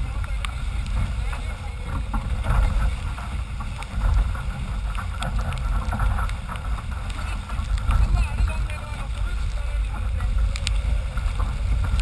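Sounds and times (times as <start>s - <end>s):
water rushing off hull: 0.0s - 12.0s
wind buffeting microphone: 0.0s - 12.0s.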